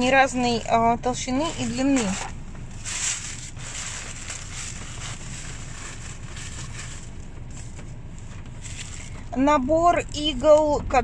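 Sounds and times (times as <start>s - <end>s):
plastic bag rustling: 0.4s - 9.3s.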